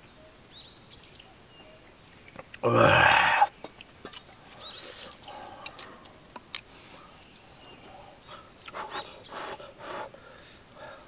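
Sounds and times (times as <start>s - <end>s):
faint bird chirps: 0.0s - 2.5s, 3.1s - 11.0s.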